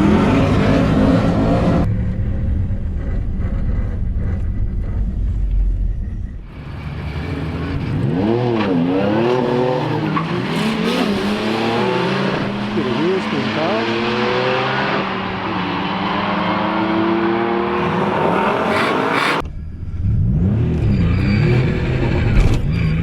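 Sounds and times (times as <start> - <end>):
car engine revving: 0.0 - 22.8.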